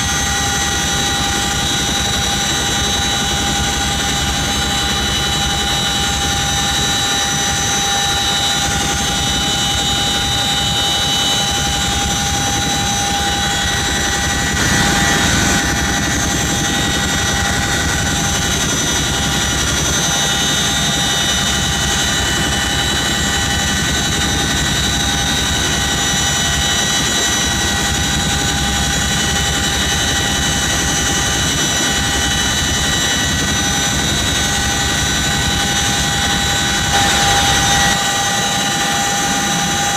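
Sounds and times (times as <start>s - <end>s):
helicopter turbine whine and rotor rumble: 0.0s - 39.9s.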